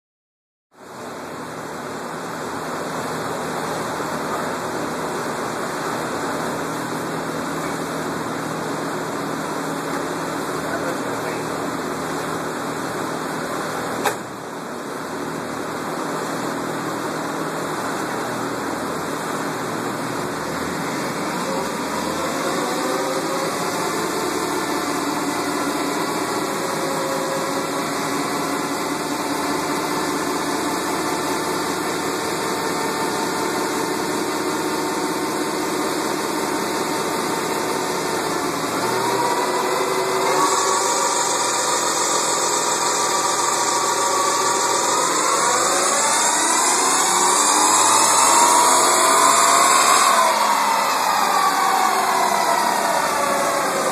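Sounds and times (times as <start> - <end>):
car engine revving on dyno: 0.8 - 53.9.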